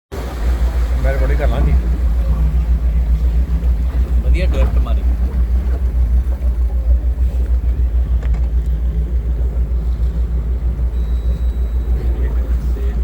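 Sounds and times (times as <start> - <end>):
boat engine rumbling: 0.1 - 13.0.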